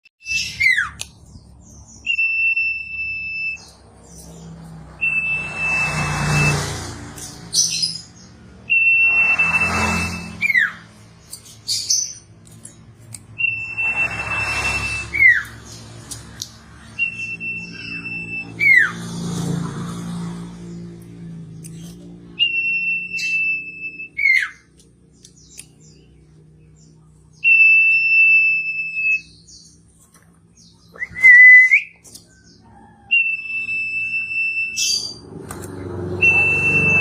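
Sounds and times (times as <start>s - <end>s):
bird whistling song: 0.2s - 15.8s, 16.8s - 19.0s, 21.6s - 26.0s, 26.8s - 29.8s, 30.6s - 35.4s, 36.1s - 37.0s.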